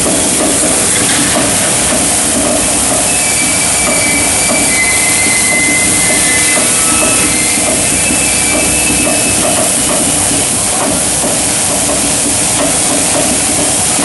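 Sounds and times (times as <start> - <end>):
welding machinery rumble and hiss: 0.0 - 14.0.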